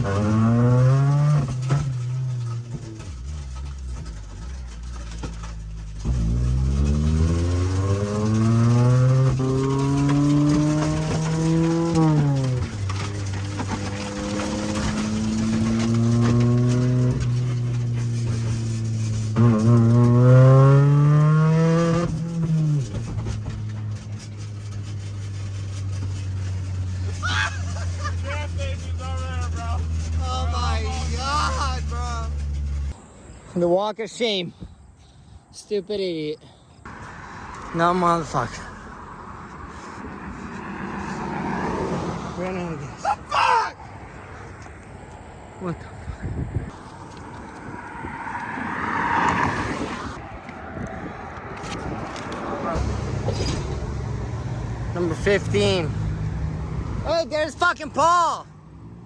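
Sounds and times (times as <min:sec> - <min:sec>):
car engine revving: 0:00.0 - 0:33.0, 0:36.9 - 0:43.3, 0:46.7 - 0:59.0.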